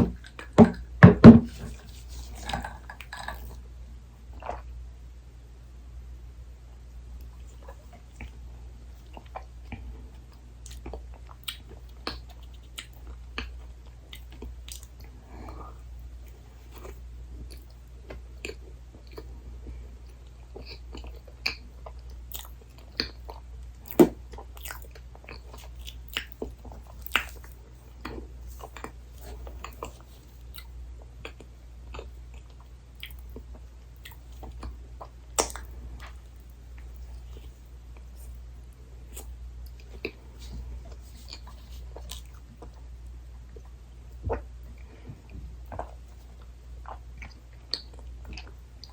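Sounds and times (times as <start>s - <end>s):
person chewing soft food: 0.0s - 3.6s, 4.2s - 4.8s, 6.7s - 48.9s
steady low hum: 0.0s - 48.9s.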